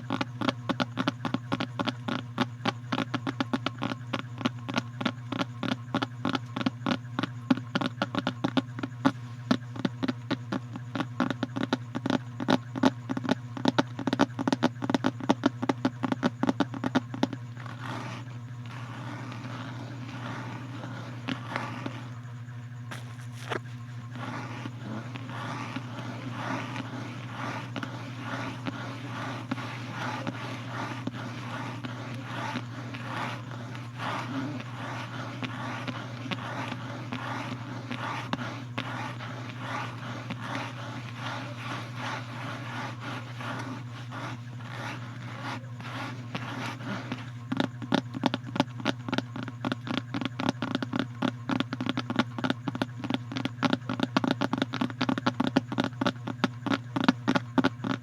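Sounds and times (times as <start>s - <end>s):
rapid sharp tapping: 0.0s - 58.0s
scratching on a surface: 0.0s - 58.0s
steady low hum: 0.0s - 58.0s.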